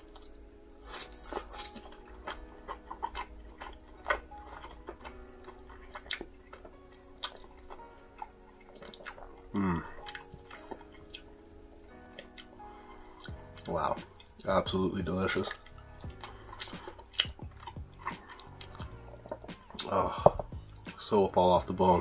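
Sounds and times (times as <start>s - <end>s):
close chewing with mouth clicks: 0.0s - 11.3s, 11.9s - 14.4s, 15.4s - 19.9s.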